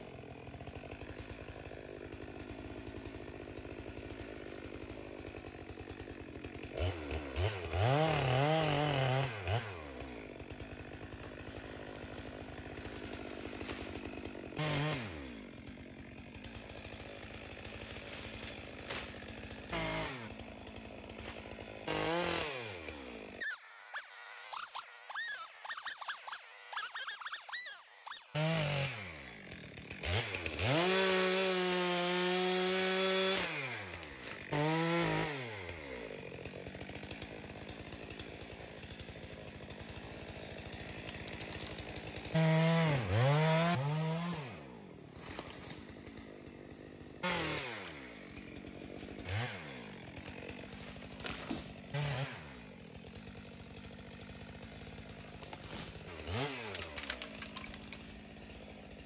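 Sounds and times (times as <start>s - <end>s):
chainsaw revving: 0.0s - 59.0s.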